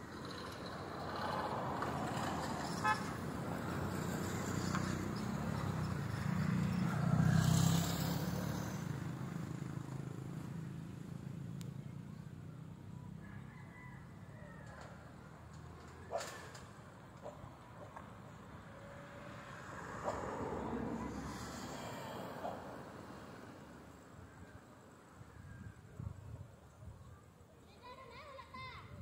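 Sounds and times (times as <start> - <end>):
motor vehicle passing: 0.0 - 25.0.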